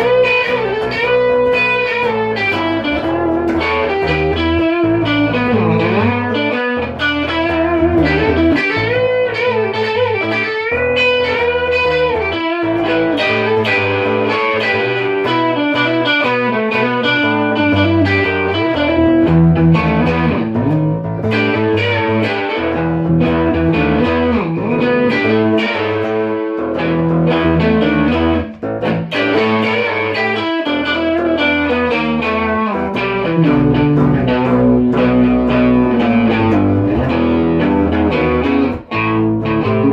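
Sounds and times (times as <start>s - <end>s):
bass line: 0.0s - 39.9s
electric guitar lead notes: 0.0s - 39.9s.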